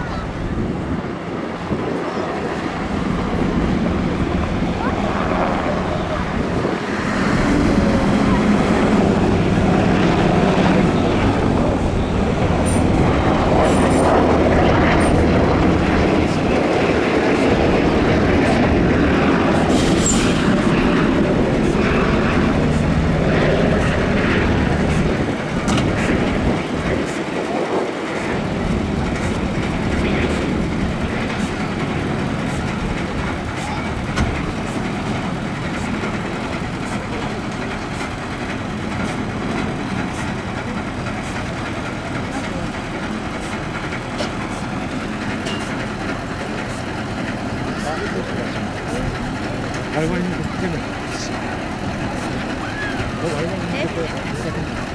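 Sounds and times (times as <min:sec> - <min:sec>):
continuous rushing noise: 0:00.0 - 0:54.9
heavy engine running: 0:00.0 - 0:54.9.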